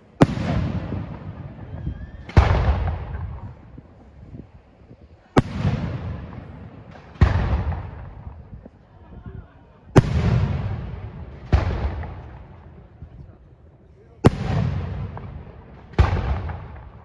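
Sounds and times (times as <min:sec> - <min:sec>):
rolling echo: 0:00.0 - 0:17.0.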